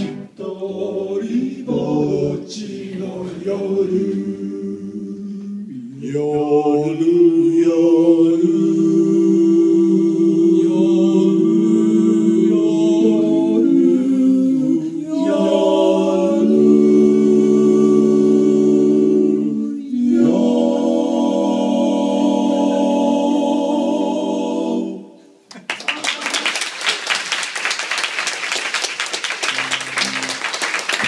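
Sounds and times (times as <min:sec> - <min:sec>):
male vocal quartet singing: 0:00.0 - 0:25.4.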